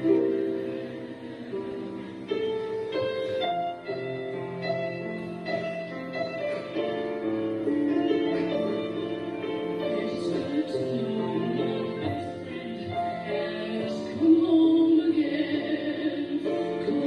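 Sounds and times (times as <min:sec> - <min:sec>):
slow piano ballad: 0:00.0 - 0:17.0.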